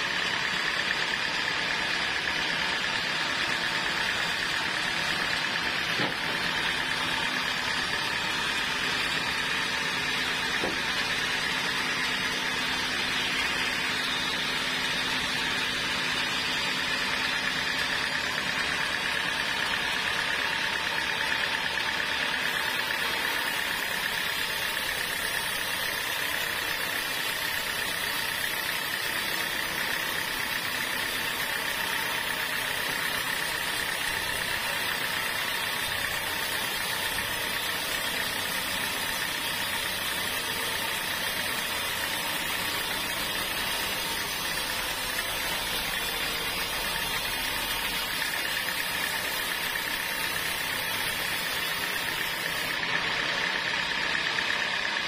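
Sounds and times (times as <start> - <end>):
band saw cutting log: 0.0 - 55.0
high saw whine: 0.0 - 55.0.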